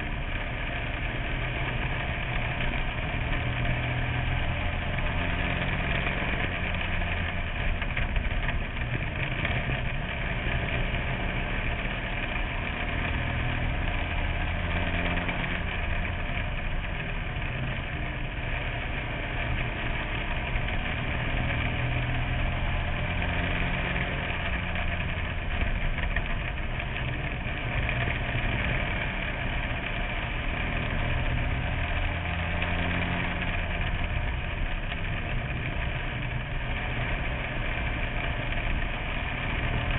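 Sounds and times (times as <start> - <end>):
race car engine running hard: 0.0 - 39.9
rattle and vibration: 0.0 - 39.9.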